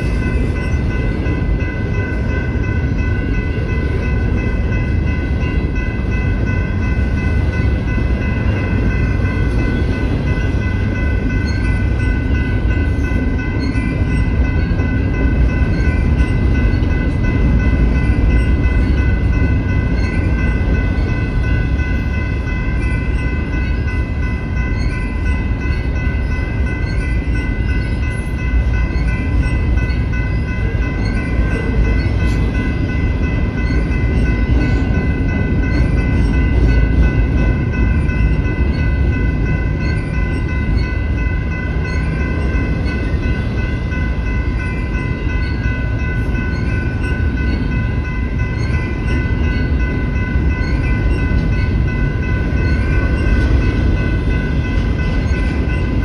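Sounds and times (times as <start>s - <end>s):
freight train rumbling past: 0.0s - 56.0s
steady high ringing tone: 0.0s - 56.0s.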